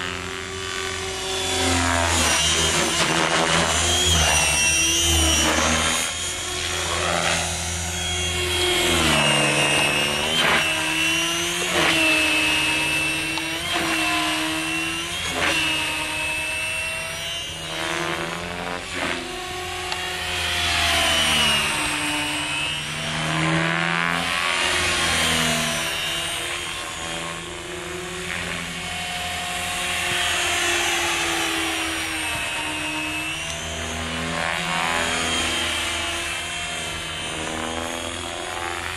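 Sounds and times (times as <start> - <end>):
rc helicopter rotor whine: 0.0 - 38.9.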